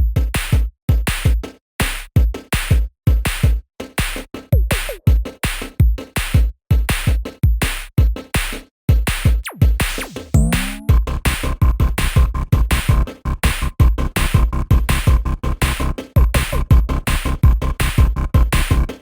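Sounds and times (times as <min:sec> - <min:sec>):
electronic music with drum machine: 0:00.0 - 0:19.0.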